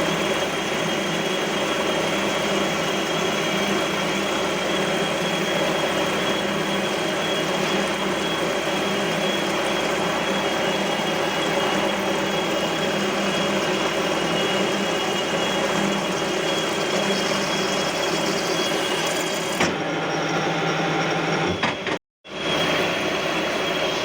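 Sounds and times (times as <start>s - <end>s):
lathe whirring with high tone: 0.0s - 24.0s.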